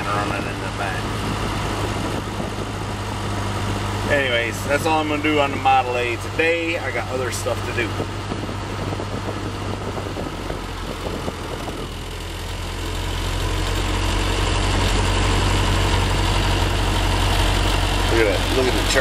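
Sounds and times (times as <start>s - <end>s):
car engine idling: 0.0s - 19.0s
large fan running: 0.0s - 19.0s.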